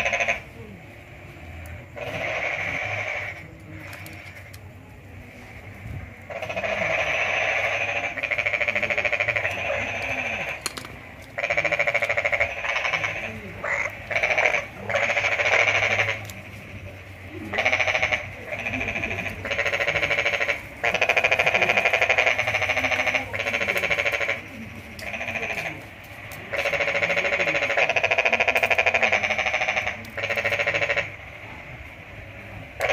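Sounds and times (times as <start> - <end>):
rapidly pulsing animal calls: 0.0 - 4.6, 5.4 - 32.9.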